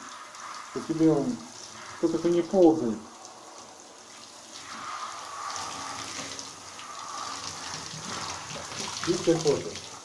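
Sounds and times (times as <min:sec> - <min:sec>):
shower head spraying water: 0:00.0 - 0:10.0.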